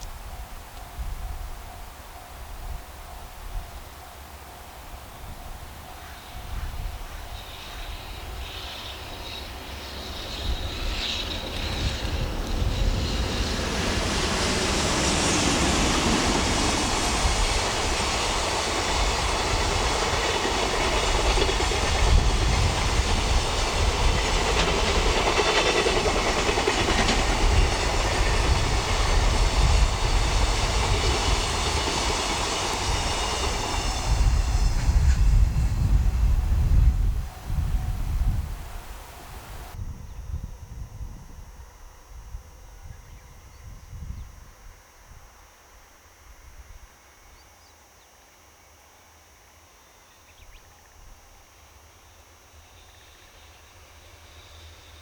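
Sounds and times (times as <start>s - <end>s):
freight train running past: 0.0s - 47.6s, 49.1s - 55.0s.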